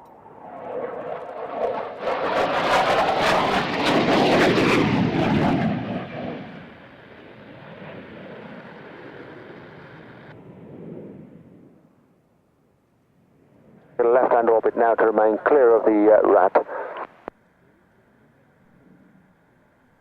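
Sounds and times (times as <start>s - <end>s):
aircraft engine roar: 0.0s - 20.0s.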